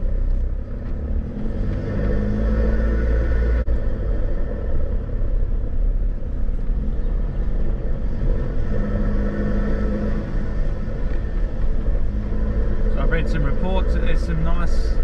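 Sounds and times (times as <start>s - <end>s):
vehicle driving on dirt track: 0.0s - 15.0s.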